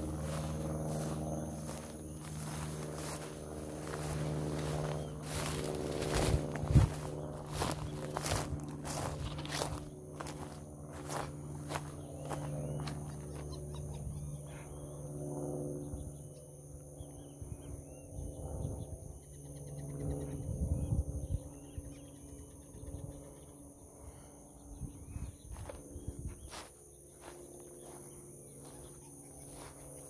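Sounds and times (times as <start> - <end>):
small birds chirping: 0.0 - 14.9, 19.2 - 30.0
insects buzzing: 0.0 - 30.0.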